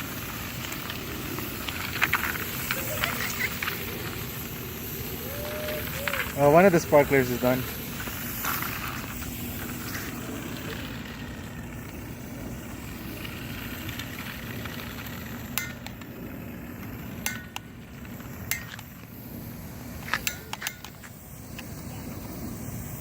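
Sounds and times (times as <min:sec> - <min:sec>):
sparklers fizzing: 0:00.0 - 0:23.0.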